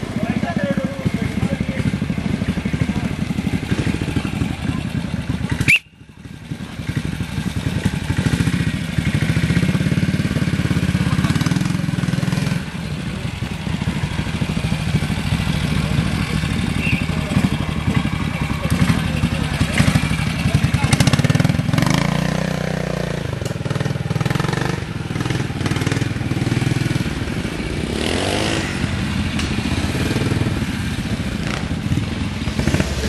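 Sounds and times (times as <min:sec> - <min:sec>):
motorcycle engine at low revs: 0:00.0 - 0:33.0.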